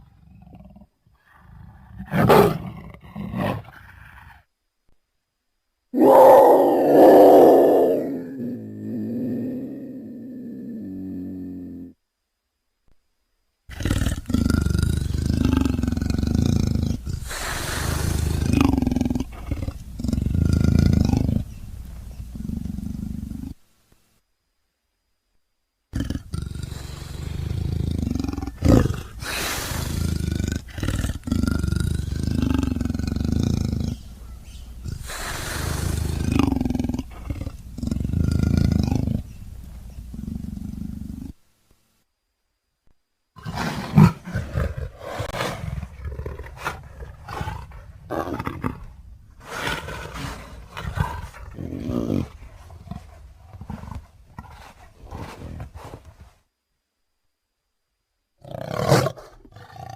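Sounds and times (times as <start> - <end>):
leopard roaring and growling: 0.0 - 4.4, 6.0 - 12.0, 13.7 - 23.6, 25.9 - 41.4, 43.4 - 56.3, 58.4 - 59.9.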